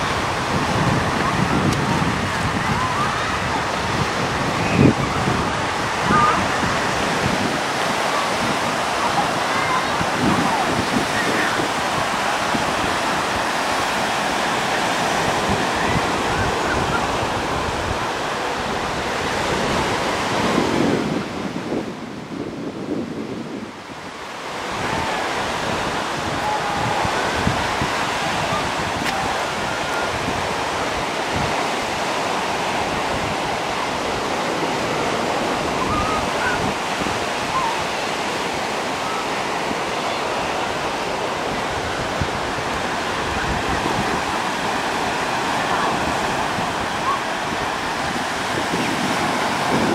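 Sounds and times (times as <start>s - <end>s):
waves breaking on sand: 0.0s - 49.9s
wind buffeting microphone: 0.0s - 49.9s.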